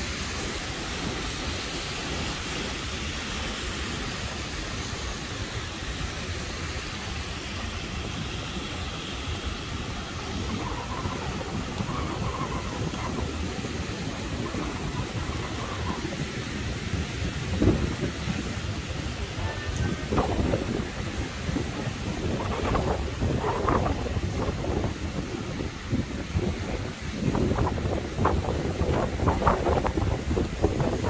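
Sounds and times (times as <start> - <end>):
traffic on wet road: 0.0 - 31.0
wind and rain rushing: 0.0 - 31.0
wind buffeting microphone: 0.0 - 31.0.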